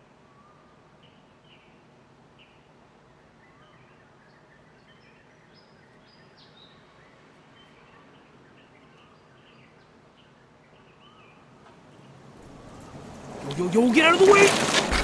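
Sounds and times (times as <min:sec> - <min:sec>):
small birds chirping: 0:02.4 - 0:14.6.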